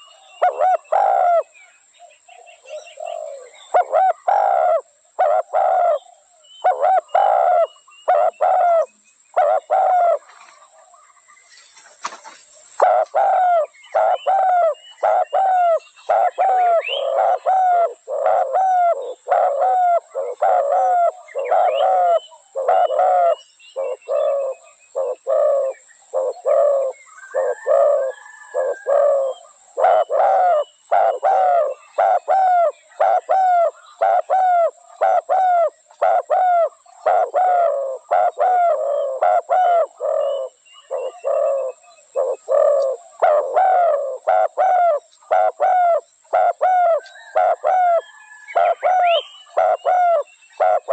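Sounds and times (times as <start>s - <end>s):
doves cooing: 0.0s - 1.5s, 2.4s - 11.2s, 12.1s - 50.9s.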